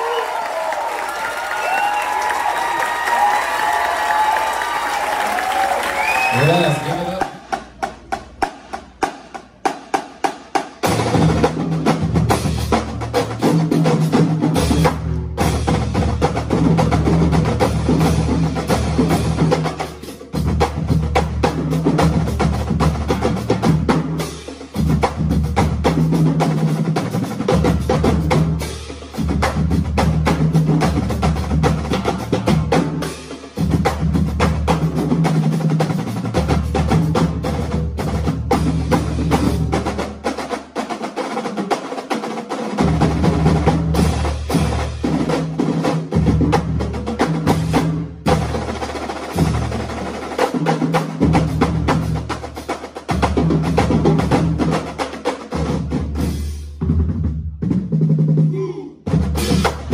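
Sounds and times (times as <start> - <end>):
marching drumline playing: 0.0 - 59.9.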